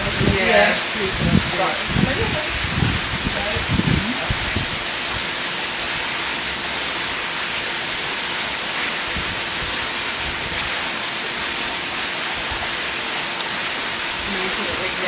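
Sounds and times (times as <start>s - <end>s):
falling splashing water: 0.0s - 15.0s.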